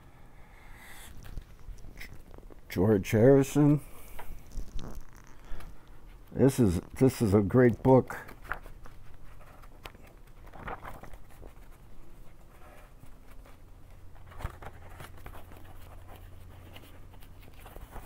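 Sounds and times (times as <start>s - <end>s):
book pages rustling: 0.8s - 18.0s.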